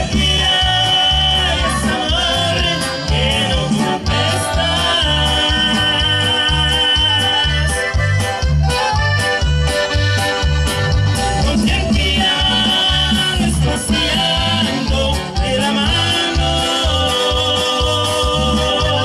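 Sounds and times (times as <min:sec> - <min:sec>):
bass guitar: 0:00.0 - 0:19.0
bouncing bass beat: 0:00.0 - 0:19.0.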